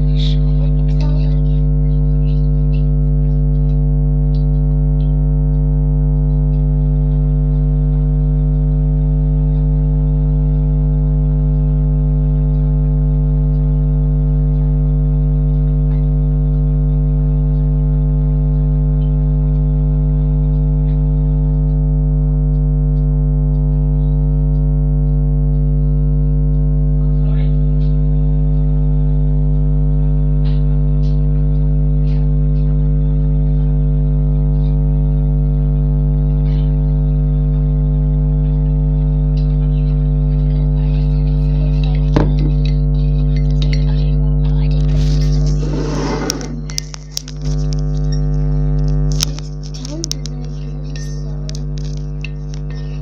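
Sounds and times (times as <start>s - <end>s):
loud electrical hum: 0.0s - 53.0s.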